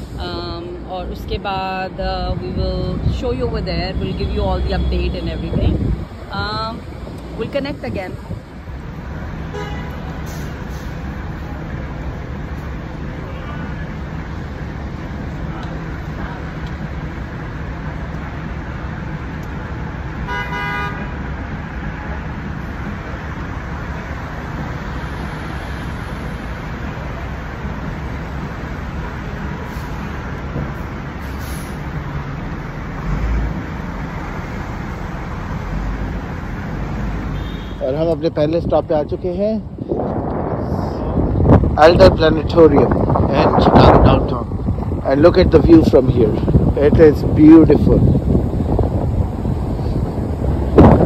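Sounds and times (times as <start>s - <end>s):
bus engine drone: 0.0s - 51.0s
street traffic: 0.0s - 51.0s.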